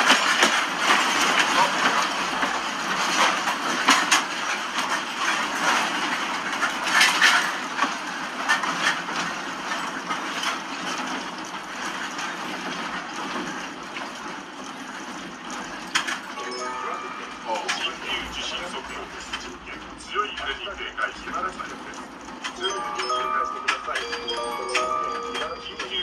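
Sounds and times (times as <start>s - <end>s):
house rattling in earthquake: 0.0s - 26.0s.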